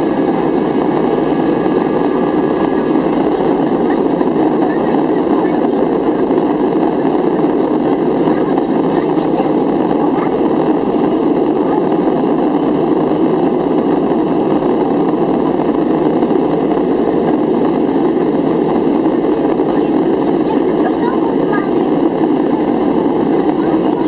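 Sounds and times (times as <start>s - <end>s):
airplane cabin engine rush: 0.0s - 24.0s.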